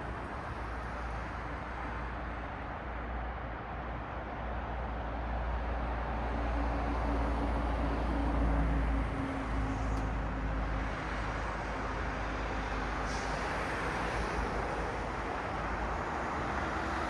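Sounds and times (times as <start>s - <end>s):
cars passing on street: 0.0s - 17.0s.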